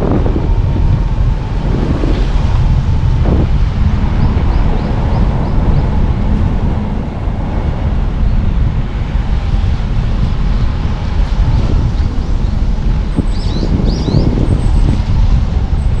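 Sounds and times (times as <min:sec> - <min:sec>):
car engine and tyres rumbling: 0:00.0 - 0:16.0
wind noise: 0:00.0 - 0:16.0.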